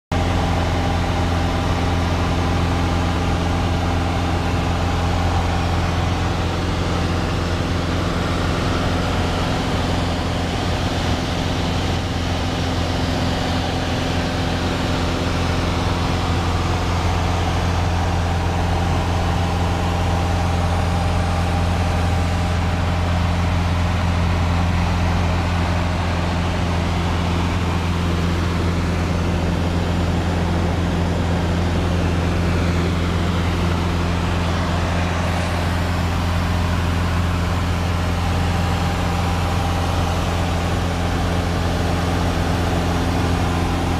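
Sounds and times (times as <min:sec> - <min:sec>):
light aircraft engine drone: 0:00.1 - 0:43.9.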